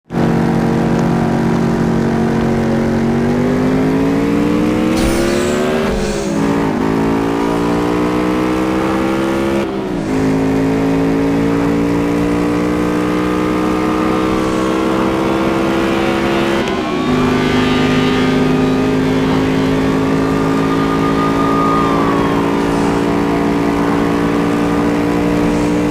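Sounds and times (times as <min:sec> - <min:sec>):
car engine accelerating: 0:00.0 - 0:25.9.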